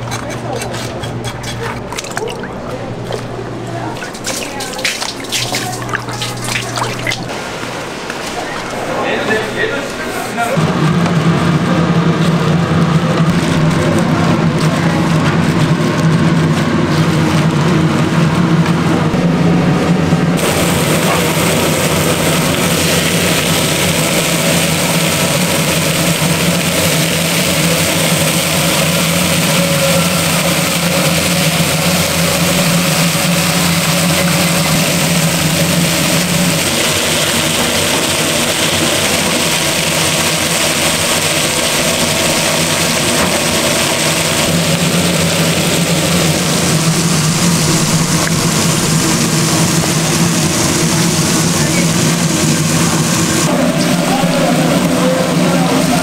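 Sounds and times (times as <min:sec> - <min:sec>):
machine hum: 0:00.0 - 0:56.0
constant rushing noise: 0:02.0 - 0:56.0.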